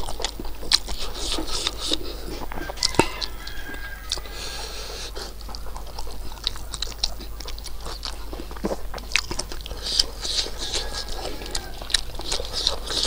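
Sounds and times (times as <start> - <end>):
wet clicking mouth sounds: 0.0 - 4.4, 5.0 - 13.0
person chewing food: 0.0 - 13.0.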